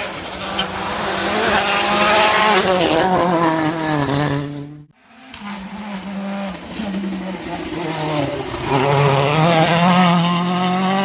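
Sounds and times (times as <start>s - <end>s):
distant rally car approaching: 0.0s - 11.0s
rally car engine passing: 0.0s - 11.0s.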